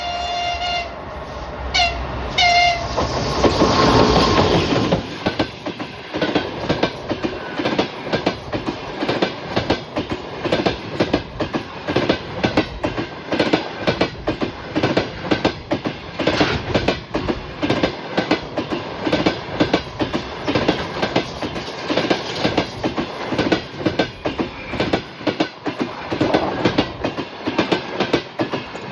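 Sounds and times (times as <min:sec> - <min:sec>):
locomotive rushing past: 0:00.0 - 0:28.9
train wheels clickety-clack: 0:02.3 - 0:28.9.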